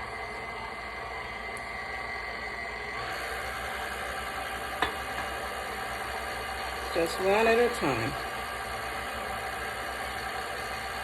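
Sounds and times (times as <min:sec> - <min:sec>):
electric mixer whirring: 0:00.0 - 0:11.0.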